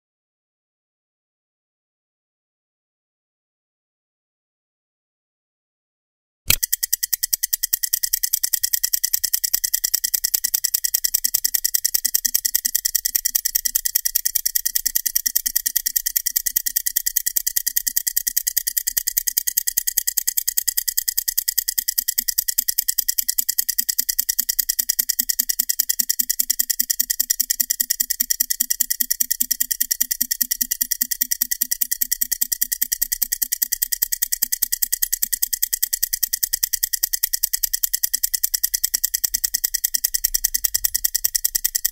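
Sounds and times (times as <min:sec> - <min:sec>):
mechanical stopwatches ticking: 0:06.5 - 0:41.9.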